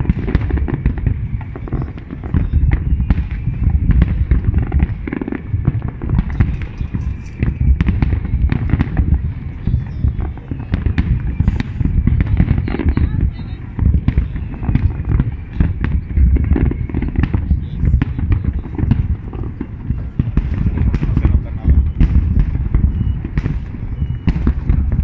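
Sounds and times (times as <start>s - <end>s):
fireworks booming: 0.0s - 25.0s
fireworks popping: 0.0s - 25.0s.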